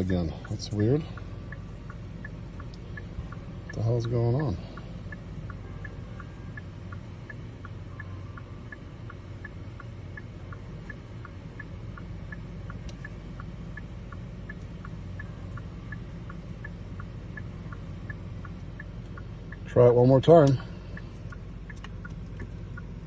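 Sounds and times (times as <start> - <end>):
low steady hum: 0.0 - 23.0
turn signal ticking: 0.0 - 23.0.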